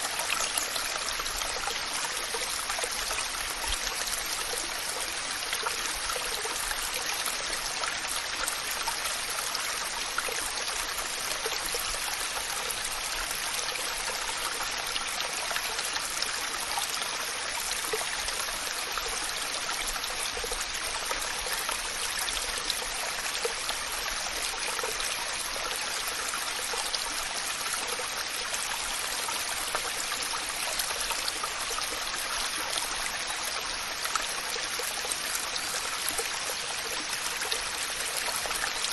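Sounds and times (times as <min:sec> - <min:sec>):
water splashes and trickles: 0:00.0 - 0:38.9.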